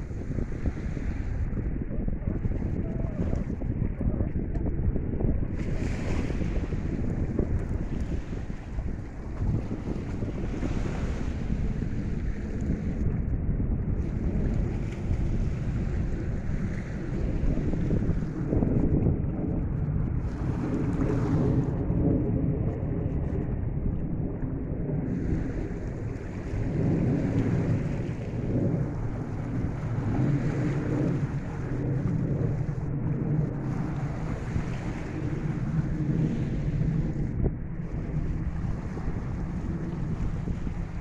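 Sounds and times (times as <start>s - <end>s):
wind buffeting microphone: 0.0s - 41.0s
sea waves washing against rocks: 5.2s - 13.2s, 13.8s - 23.5s, 25.0s - 41.0s.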